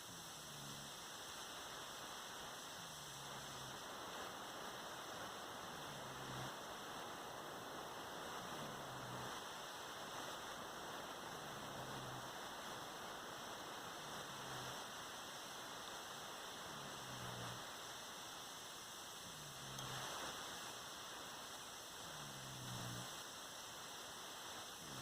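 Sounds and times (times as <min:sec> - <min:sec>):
person snoring softly: 0:00.0 - 0:25.0
steady hiss: 0:00.0 - 0:25.0.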